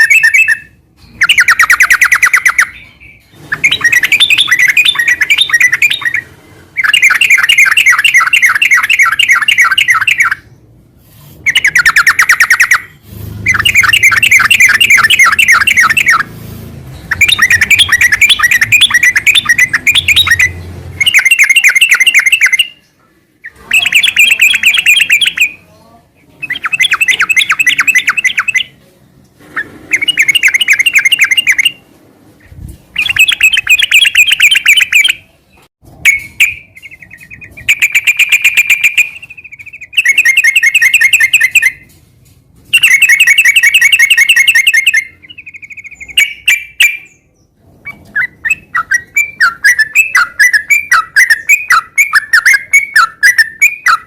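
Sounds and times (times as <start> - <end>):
bird chattering song: 0.0 - 10.7, 11.4 - 28.8, 29.6 - 31.8, 32.4 - 41.9, 42.7 - 54.0.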